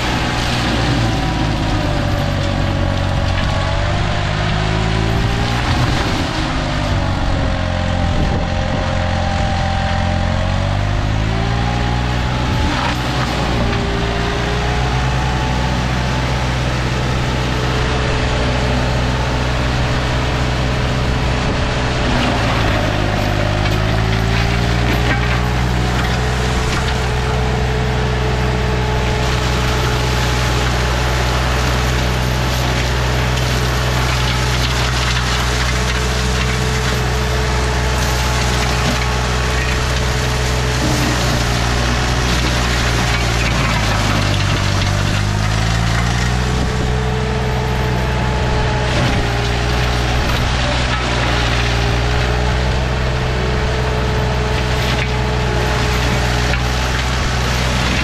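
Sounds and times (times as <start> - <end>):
mower engine running hard: 0.0 - 58.0.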